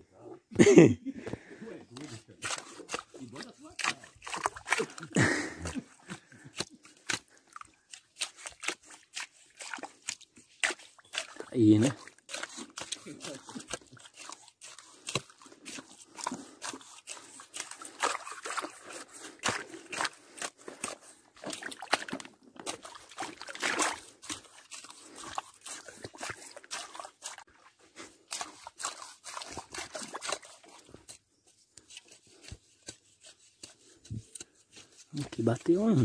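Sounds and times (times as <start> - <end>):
mud and water squelching: 0.7 - 36.0.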